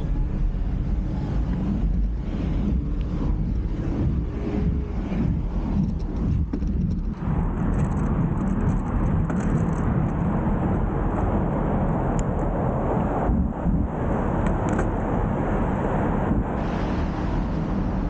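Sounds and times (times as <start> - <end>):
low rumble from bike riding: 0.0 - 18.0
wind rushing over microphone: 0.0 - 18.0.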